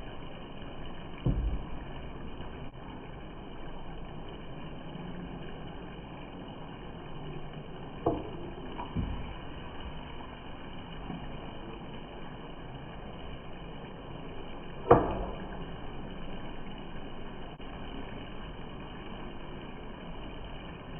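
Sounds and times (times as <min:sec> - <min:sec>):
low hiss: 0:00.0 - 0:20.9.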